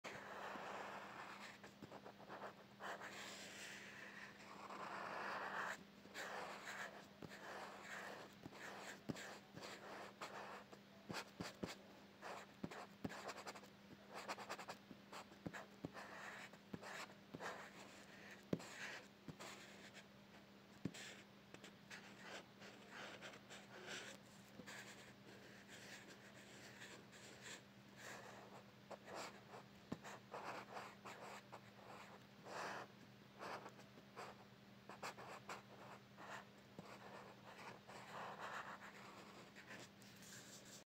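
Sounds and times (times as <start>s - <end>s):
pencil scratching on paper: 0.1s - 20.0s, 21.9s - 40.8s
faint low hum: 0.1s - 40.8s.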